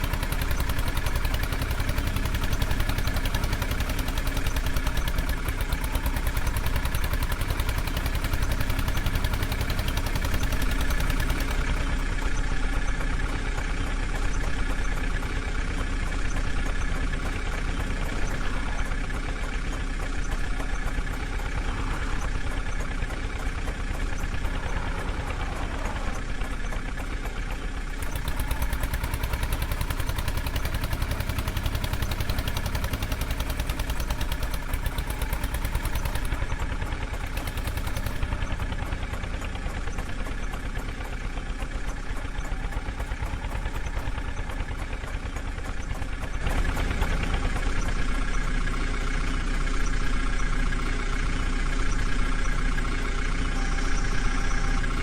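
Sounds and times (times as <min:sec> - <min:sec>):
diesel engine clattering: 0:00.0 - 0:55.0.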